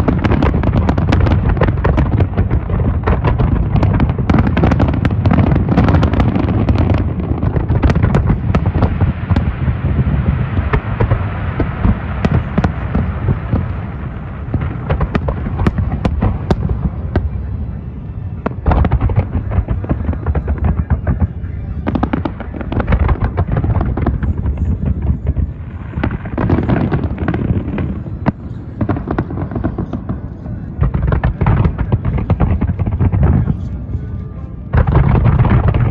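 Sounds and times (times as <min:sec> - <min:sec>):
fireworks crackle: 0:00.0 - 0:35.9.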